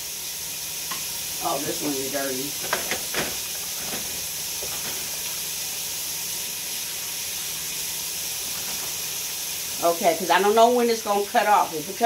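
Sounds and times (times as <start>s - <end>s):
faucet running into sink: 0.8s - 12.0s.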